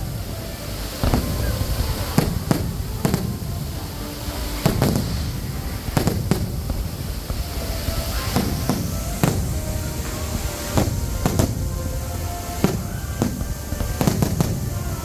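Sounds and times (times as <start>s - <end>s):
fireworks bangs: 0.0s - 15.0s
low rumble: 0.0s - 15.0s.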